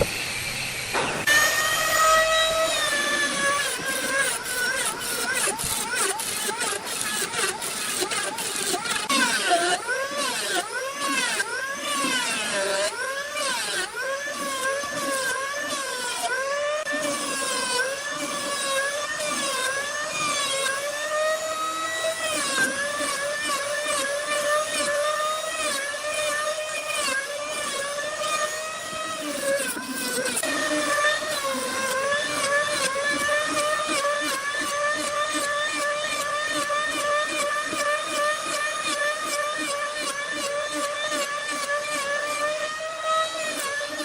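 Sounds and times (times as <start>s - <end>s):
power tool motor cutting wood: 0.0s - 44.0s.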